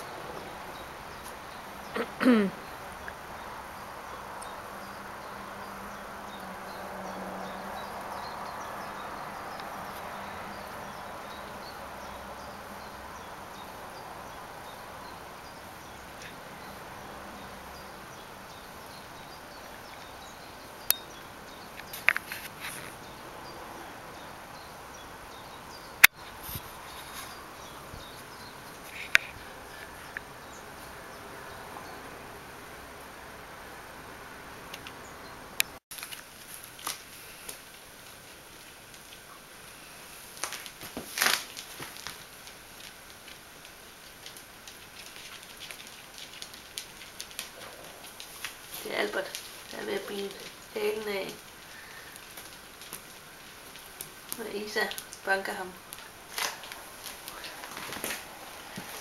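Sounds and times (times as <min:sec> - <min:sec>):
faint outdoor hiss: 0:00.0 - 0:59.0.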